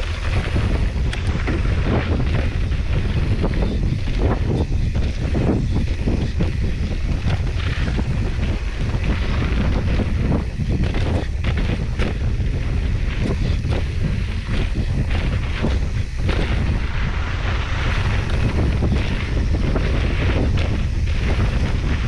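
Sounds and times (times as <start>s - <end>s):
bike rattling over rough ground: 0.0s - 22.0s
wind buffeting microphone: 0.0s - 22.0s.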